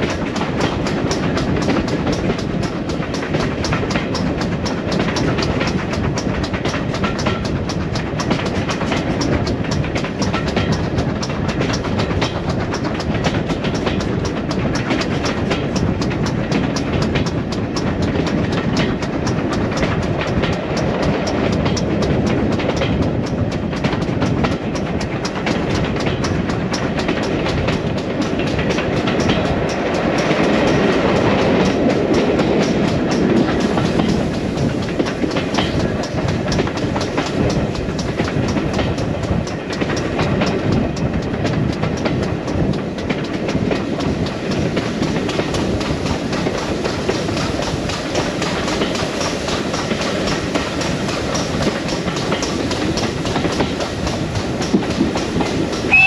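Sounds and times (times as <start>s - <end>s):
train rumble: 0.0s - 56.0s
wheels clicking over rail joints: 0.0s - 56.0s.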